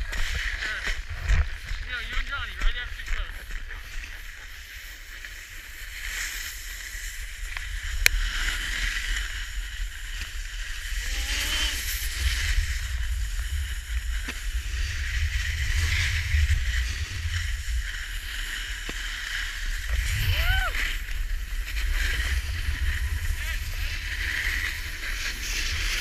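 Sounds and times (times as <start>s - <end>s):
skis hissing over packed snow: 0.0s - 26.0s
wind rumbling on microphone: 0.0s - 26.0s.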